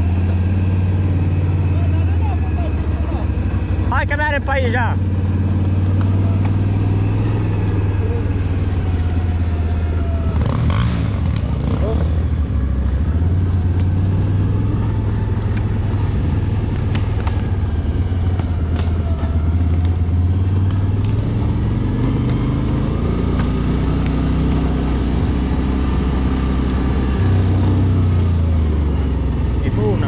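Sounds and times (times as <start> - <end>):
atv engine running: 0.0 - 30.0.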